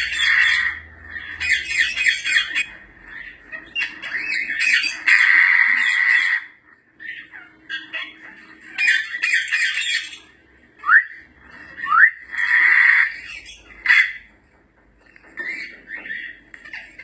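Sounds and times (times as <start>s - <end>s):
parrot harsh calls: 0.0s - 14.3s, 15.2s - 17.0s.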